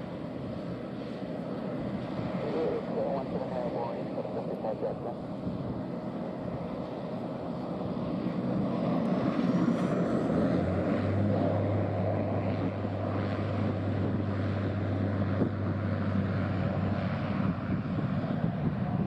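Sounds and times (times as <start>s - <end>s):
turboprop engines and propellers: 0.0s - 19.0s.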